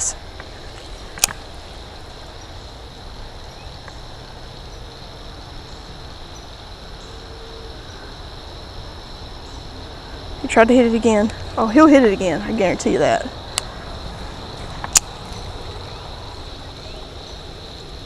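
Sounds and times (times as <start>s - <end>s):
insect chorus droning: 0.0s - 18.0s.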